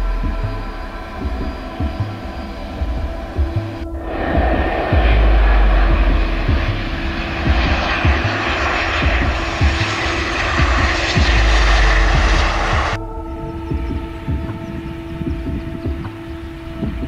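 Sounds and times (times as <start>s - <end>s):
airliner touching down: 0.0s - 17.0s
jet engines roaring: 0.0s - 17.0s.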